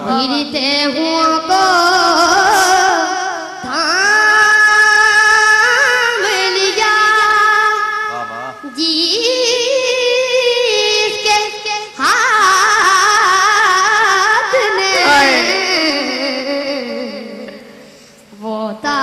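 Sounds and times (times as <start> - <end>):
child singing: 0.0 - 17.5, 18.4 - 19.0.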